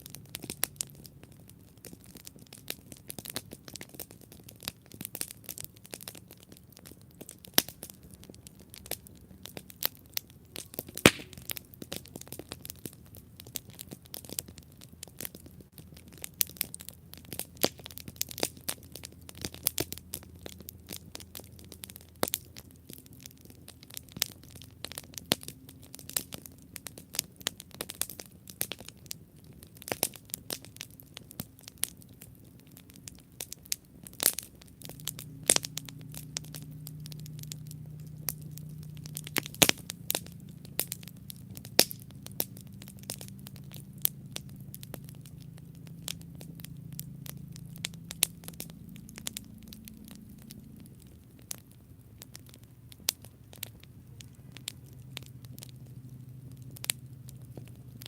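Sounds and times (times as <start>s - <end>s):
campfire crackling and popping: 0.0s - 58.0s
flames rumbling: 0.0s - 58.0s.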